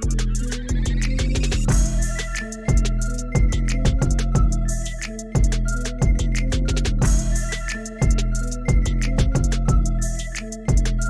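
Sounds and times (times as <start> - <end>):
drum-machine beat: 0.0 - 11.0
held bass and synth notes: 0.0 - 11.0
ticking hi-hats: 0.0 - 11.0.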